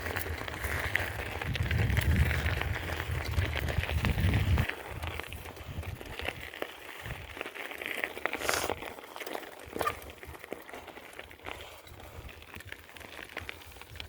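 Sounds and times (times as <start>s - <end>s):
bicycle clicking and rattling: 0.0s - 14.0s.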